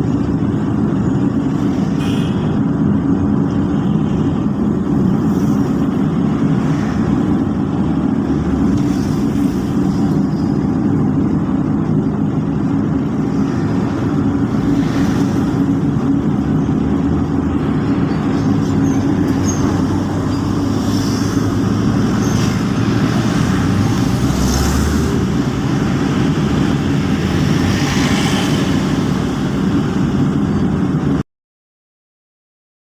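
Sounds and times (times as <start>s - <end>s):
vehicle engine and road noise: 0.0s - 31.2s.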